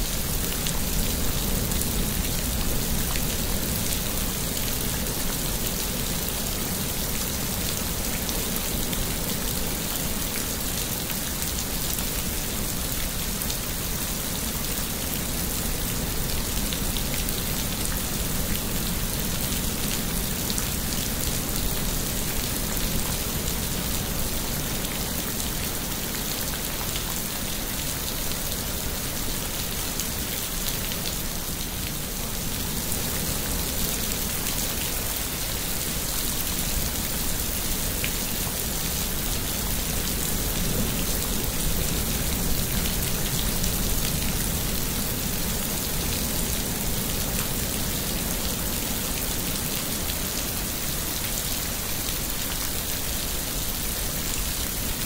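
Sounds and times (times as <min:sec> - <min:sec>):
heavy rain on leaves: 0:00.0 - 0:55.0.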